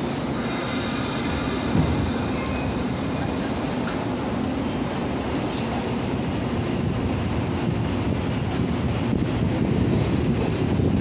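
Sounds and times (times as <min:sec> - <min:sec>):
electric train motor and wheel noise: 0:00.0 - 0:11.0.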